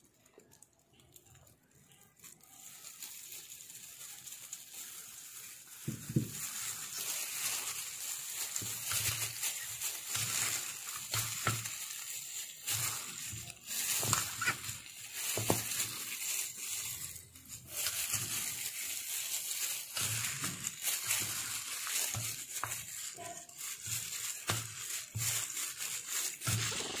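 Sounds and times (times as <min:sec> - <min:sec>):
plastic glove crinkling: 0:00.0 - 0:27.0.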